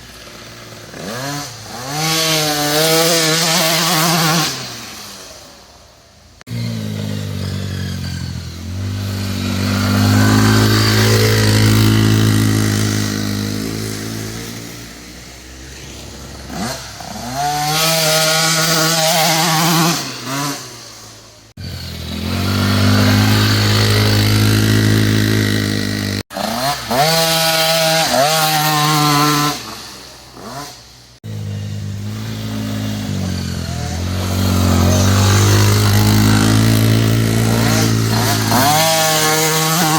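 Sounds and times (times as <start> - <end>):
dirt bike engine revving: 0.0 - 5.5, 6.4 - 39.9.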